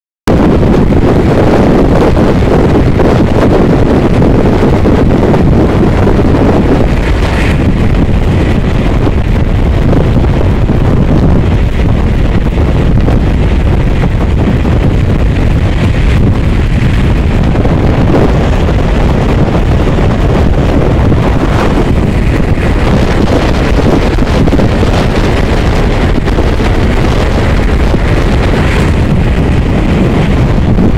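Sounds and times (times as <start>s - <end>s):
train wheels rumbling on rails: 0.3s - 30.9s
wind buffeting microphone: 0.3s - 30.9s.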